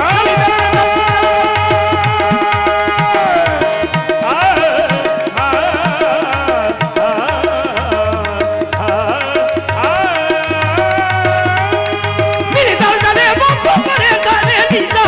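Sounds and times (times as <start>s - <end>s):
person singing ornamented phrases: 0.0s - 15.0s
tabla strokes: 0.0s - 15.0s.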